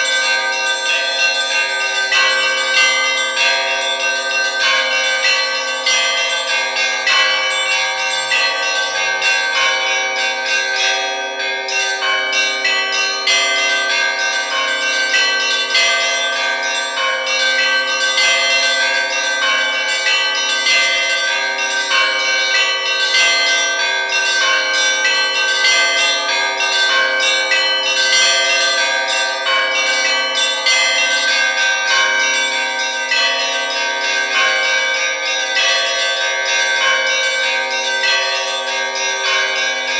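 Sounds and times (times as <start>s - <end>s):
hum of large bells: 0.0s - 39.9s.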